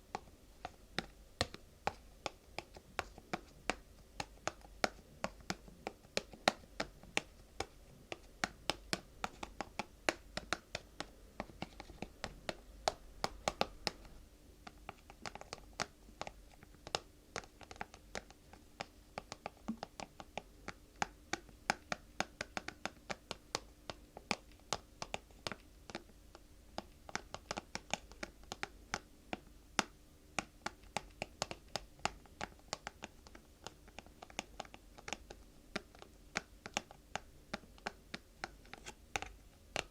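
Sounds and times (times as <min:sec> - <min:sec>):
faint steady hum: 0:00.0 - 0:39.9
fingers tapping and scratching: 0:00.1 - 0:26.1, 0:26.8 - 0:39.9.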